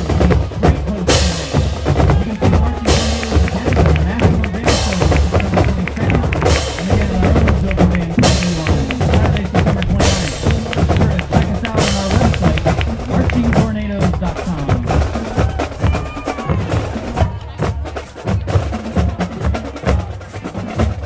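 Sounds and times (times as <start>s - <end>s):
bass drums: 0.0s - 21.0s
marching band brass: 0.0s - 21.0s.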